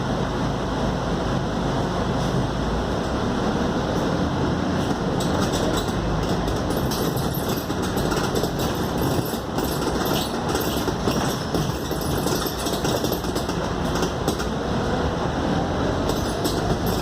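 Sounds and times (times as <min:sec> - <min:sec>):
bus diesel engine: 0:00.0 - 0:17.0
road noise: 0:00.0 - 0:17.0
rattling of bus body: 0:01.8 - 0:17.0.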